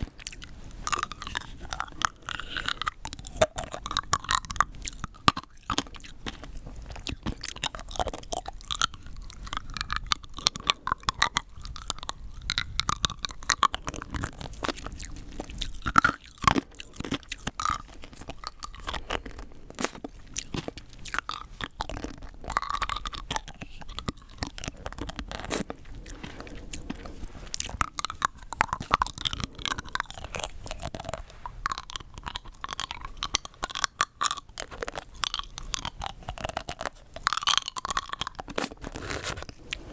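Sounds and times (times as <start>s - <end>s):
crunching hard candy: 0.0s - 39.9s.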